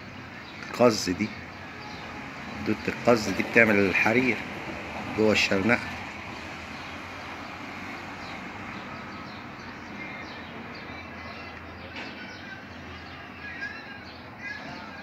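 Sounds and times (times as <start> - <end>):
small birds chirping: 0.0 - 15.0
steady background noise: 0.0 - 15.0.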